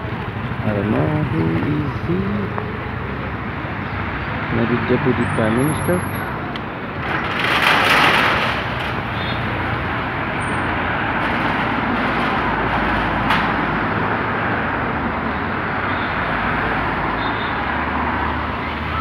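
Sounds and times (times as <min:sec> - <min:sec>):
cars driving past: 0:00.0 - 0:19.0.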